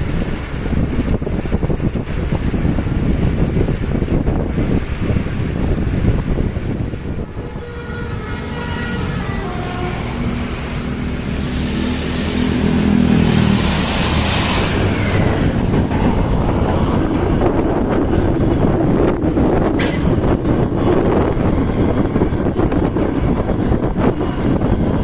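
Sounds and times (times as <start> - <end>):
bus accelerating with loud exhaust: 0.0 - 25.0
road noise: 0.0 - 25.0.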